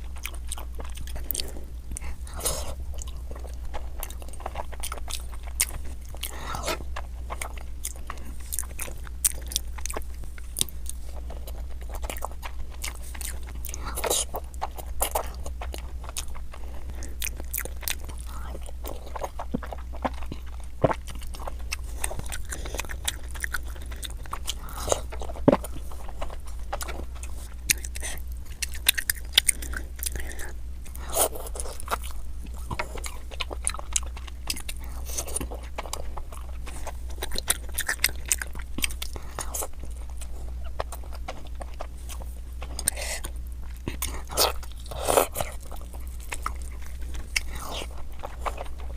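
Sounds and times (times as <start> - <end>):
biting and chewing crunching: 0.0 - 48.9
steady low hum: 0.0 - 48.9.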